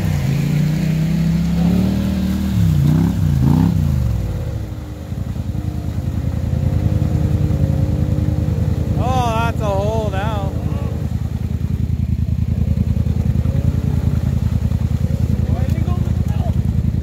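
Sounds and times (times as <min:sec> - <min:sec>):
atv engine revving in mud: 0:00.0 - 0:17.0.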